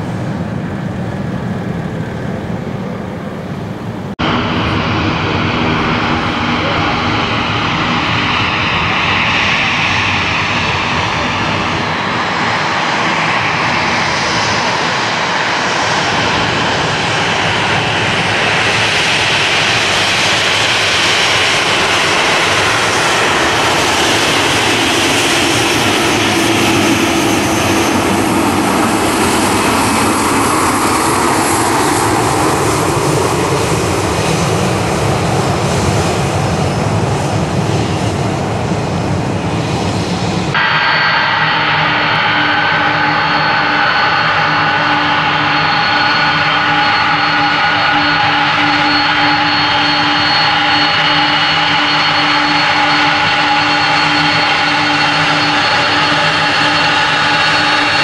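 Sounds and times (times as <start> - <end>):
airliner taxiing jet whine: 0.0 - 58.0.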